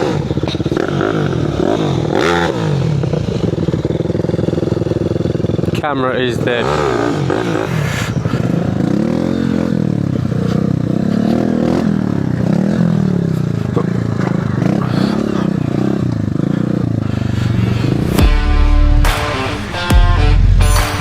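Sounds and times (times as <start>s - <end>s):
mini bike engine revving: 0.0s - 19.9s.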